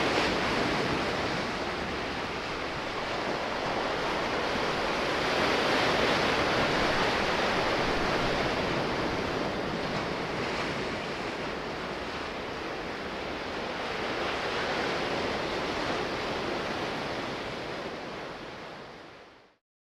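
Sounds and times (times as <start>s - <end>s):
sea waves washing: 0.0s - 19.2s.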